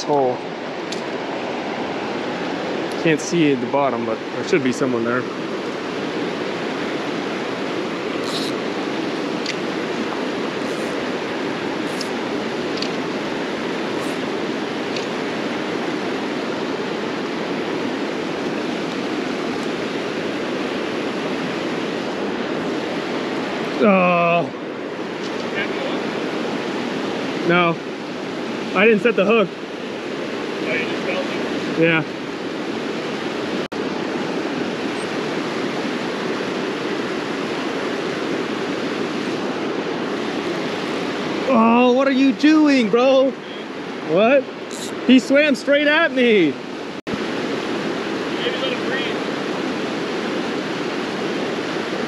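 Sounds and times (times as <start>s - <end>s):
river rushing over rocks: 0.0s - 41.8s, 42.5s - 52.0s.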